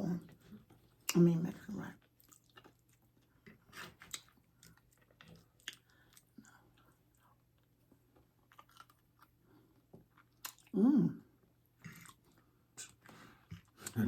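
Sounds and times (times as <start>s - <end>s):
chewing food: 0.3s - 14.0s.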